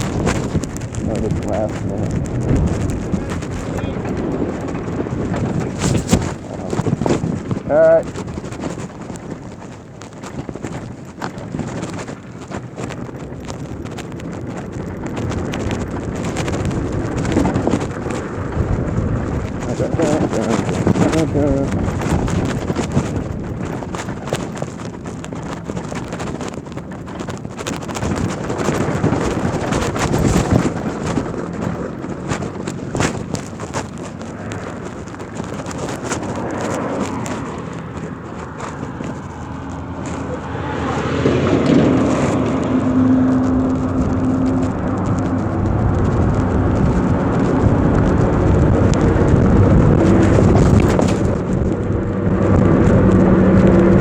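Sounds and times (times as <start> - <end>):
tyre noise: 0.0 - 54.0
wind buffeting microphone: 0.0 - 54.0.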